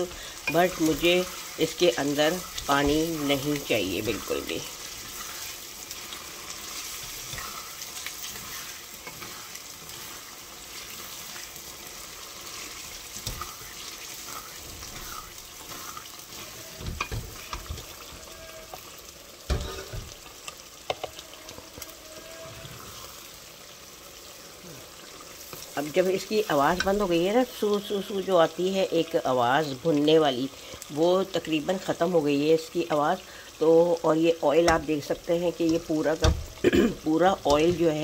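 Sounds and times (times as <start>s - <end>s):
meat sizzling in oil: 0.0s - 38.0s.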